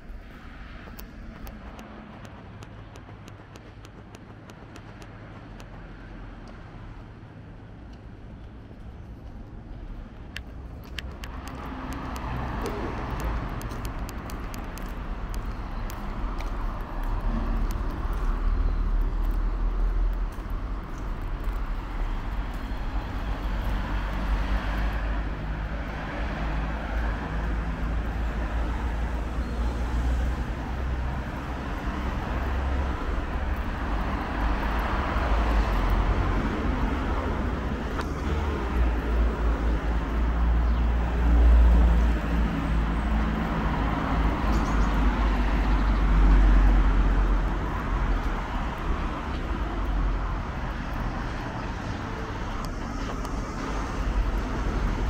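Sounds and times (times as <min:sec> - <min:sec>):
road traffic hum: 0:00.0 - 0:55.0
vehicles passing: 0:00.0 - 0:55.0.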